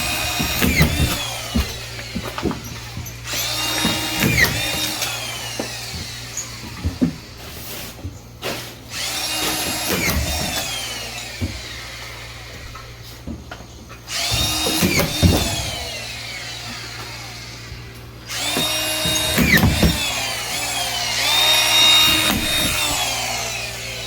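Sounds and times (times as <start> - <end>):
power drill whining into timber: 0.0 - 24.0.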